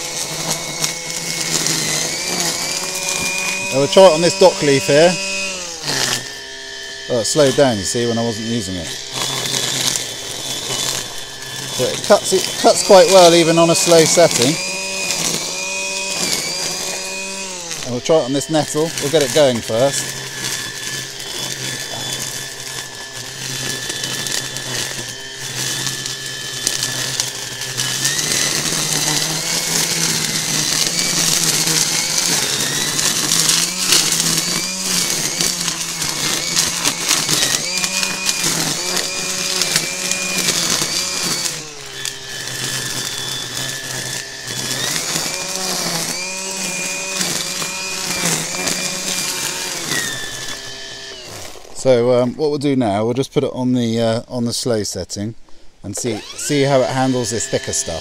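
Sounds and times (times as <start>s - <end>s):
trimmer line whipping through weeds: 0.0s - 51.9s
line trimmer motor whine: 0.0s - 52.0s, 55.9s - 58.0s.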